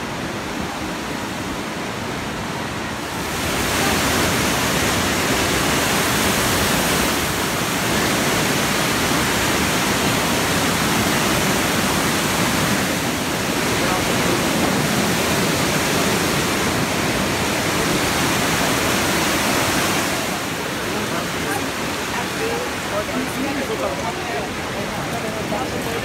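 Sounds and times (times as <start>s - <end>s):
river rushing over boulders: 0.0s - 26.0s.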